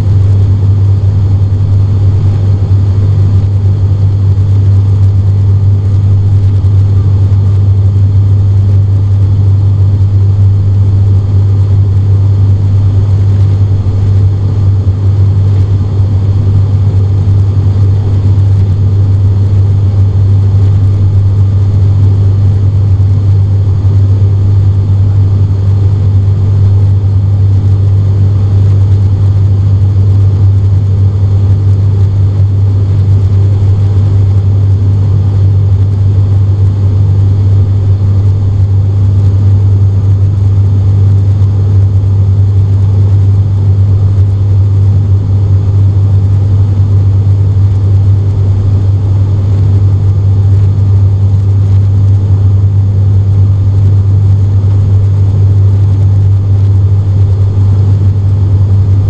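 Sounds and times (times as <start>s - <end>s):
turboprop engine drone in cabin: 0.0s - 59.0s.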